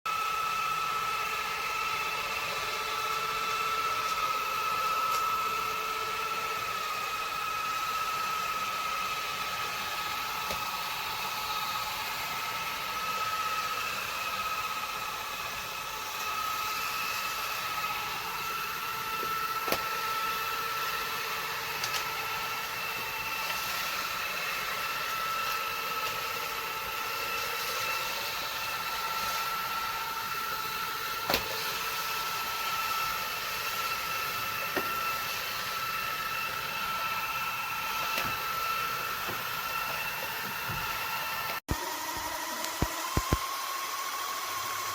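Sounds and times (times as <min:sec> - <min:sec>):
vacuum cleaner running: 0:00.1 - 0:44.9.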